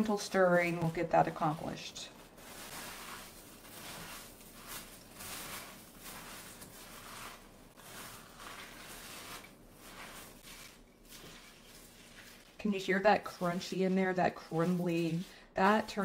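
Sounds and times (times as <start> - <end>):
cereal crunching as stirred: 0.0 - 16.0.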